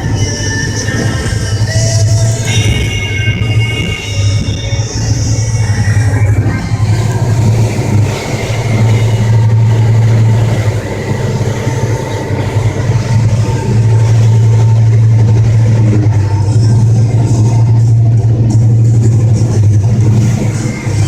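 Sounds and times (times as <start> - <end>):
boat engine low drone: 0.0 - 21.0.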